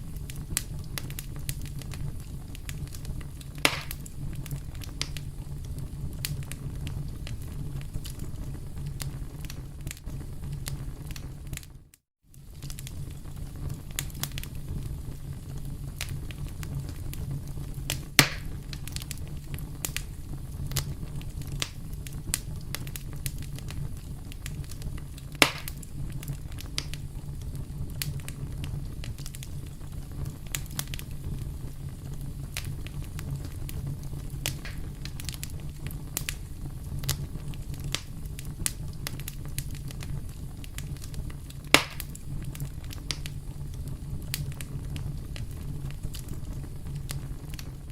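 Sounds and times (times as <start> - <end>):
fire crackling: 0.0 - 47.9
flames rumbling: 0.0 - 47.9
sharp fire pops: 0.0 - 47.9.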